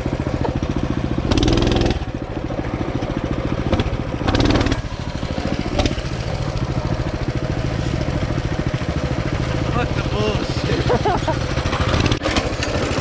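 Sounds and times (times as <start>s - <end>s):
mini bike engine revving: 0.0s - 13.0s.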